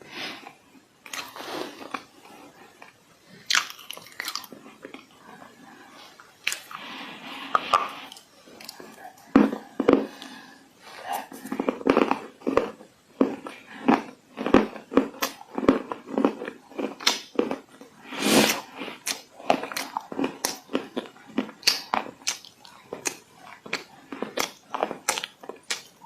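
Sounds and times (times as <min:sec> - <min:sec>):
crunching and chewing dry clay: 0:01.0 - 0:26.0.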